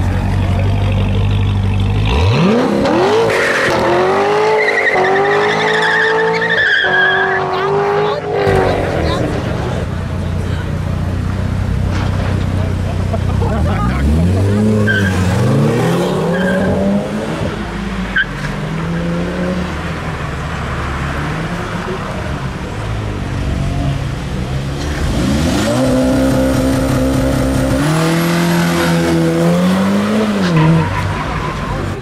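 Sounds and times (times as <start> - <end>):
car engine climbing in pitch: 0.0 - 32.0
car engine revving: 0.0 - 32.0.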